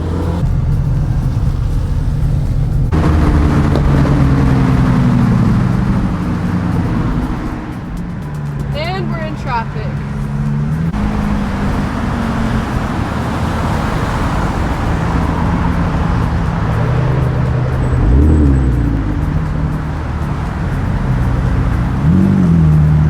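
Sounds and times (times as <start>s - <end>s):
car engine running: 0.0s - 23.0s
engine revving: 0.0s - 23.0s
road and wind noise: 0.0s - 23.0s.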